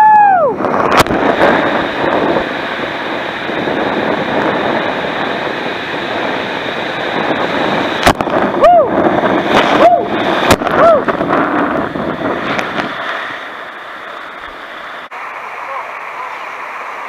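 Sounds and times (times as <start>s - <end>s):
water rushing in slide tube: 0.0s - 17.0s.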